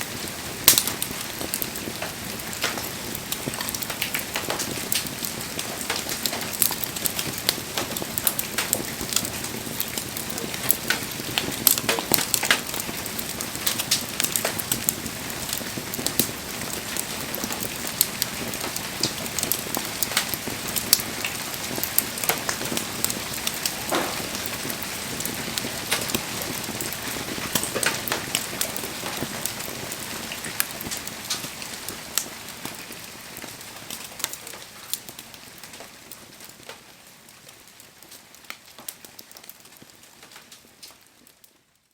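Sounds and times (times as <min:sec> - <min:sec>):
steady fire hiss: 0:00.0 - 0:36.8
campfire crackling and popping: 0:00.0 - 0:41.6.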